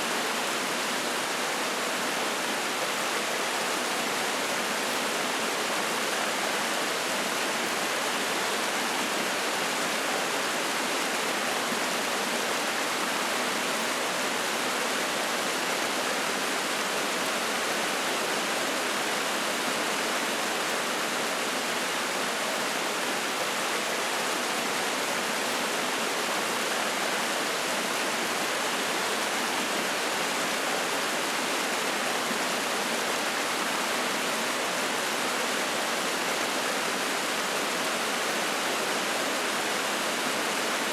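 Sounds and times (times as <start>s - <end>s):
stream flowing and splashing: 0.0s - 40.9s.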